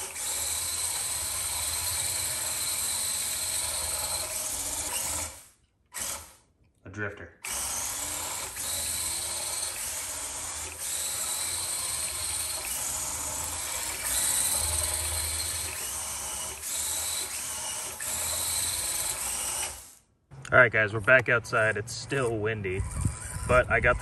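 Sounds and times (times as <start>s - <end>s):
electric motor whining: 0.0s - 6.3s, 7.4s - 24.0s.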